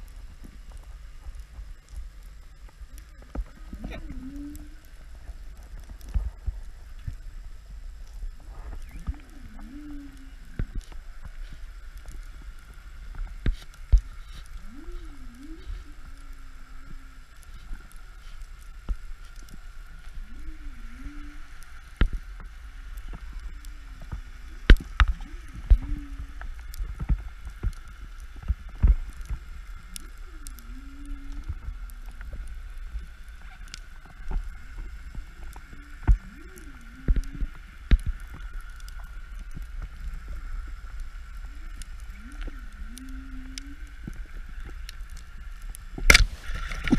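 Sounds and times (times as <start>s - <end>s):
underwater rumble: 0.0s - 46.9s.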